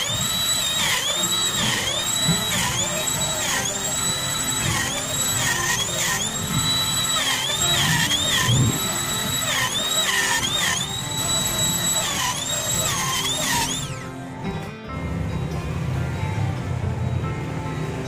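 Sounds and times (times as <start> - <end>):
router whining cutting wood: 0.0 - 14.7.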